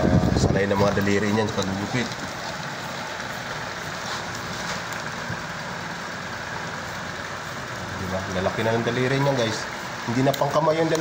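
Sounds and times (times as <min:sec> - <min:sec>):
steady machine noise: 0:00.0 - 0:11.0.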